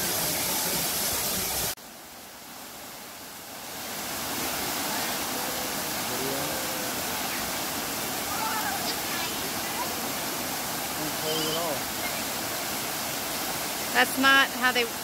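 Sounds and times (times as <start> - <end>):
water sliding over rock cascade: 0.0 - 1.8, 3.4 - 15.0
waterfall rushing: 0.0 - 15.0.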